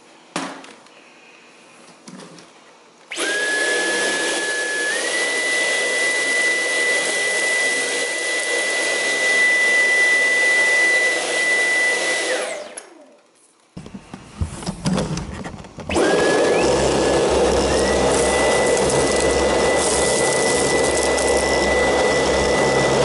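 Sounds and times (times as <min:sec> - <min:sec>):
vacuum cleaner motor whine: 0:03.1 - 0:13.2, 0:13.8 - 0:23.0.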